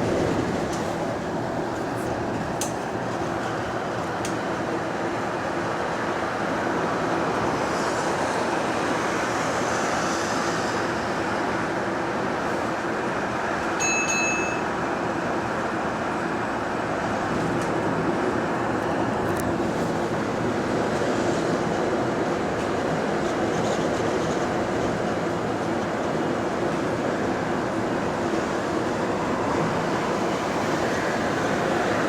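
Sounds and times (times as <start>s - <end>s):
bus drive and road noise: 0.0s - 32.0s.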